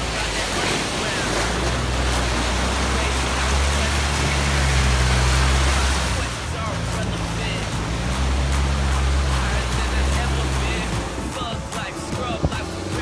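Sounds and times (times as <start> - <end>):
car engine under load: 0.0 - 13.0
mud and water splashing: 0.0 - 13.0.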